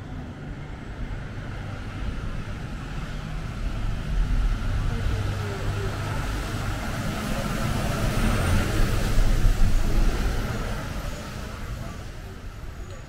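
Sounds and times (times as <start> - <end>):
truck engine rumble: 0.0 - 13.0
tyres on wet street: 0.0 - 13.0.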